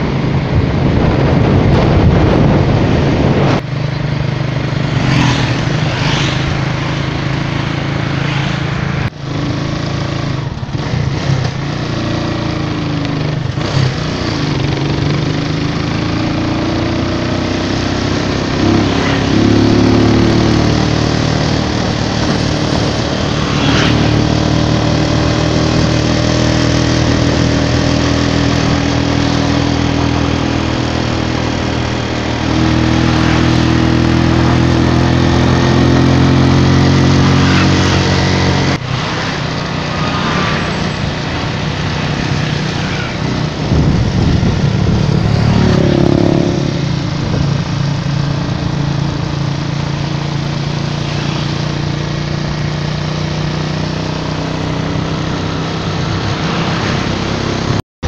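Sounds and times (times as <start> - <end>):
wind rushing over microphone: 0.0 - 52.7
small motorcycle engine running: 3.6 - 57.8.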